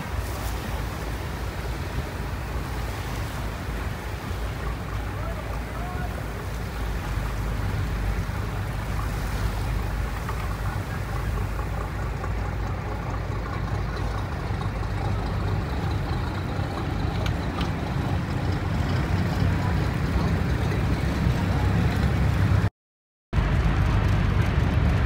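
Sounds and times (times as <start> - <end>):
ferry engine droning: 0.0 - 22.7, 23.4 - 25.0
water rushing along hull: 0.0 - 22.7, 23.4 - 25.0.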